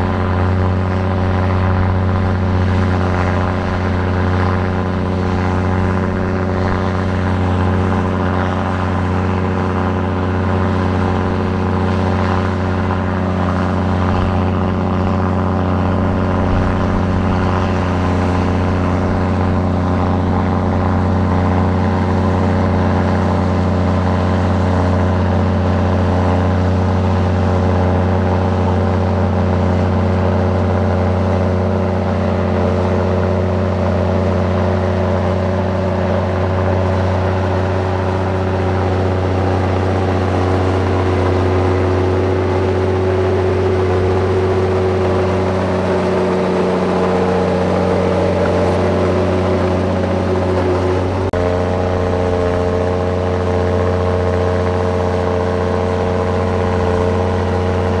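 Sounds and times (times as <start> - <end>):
constant drone: 0.0 - 58.0
diesel engine running under load: 0.0 - 58.0.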